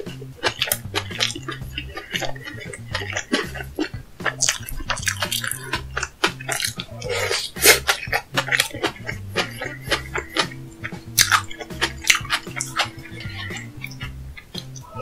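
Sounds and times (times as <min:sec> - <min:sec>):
chewing and mouth smacks: 0:00.0 - 0:14.8
music with repeating bass line: 0:00.0 - 0:15.0.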